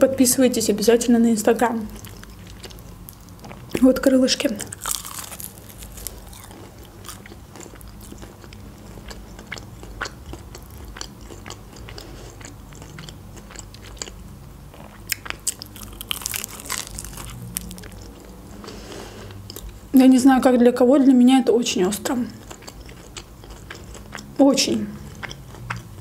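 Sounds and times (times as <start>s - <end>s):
chewing crispy chicken: 1.8s - 3.9s, 4.5s - 19.8s, 22.4s - 26.0s.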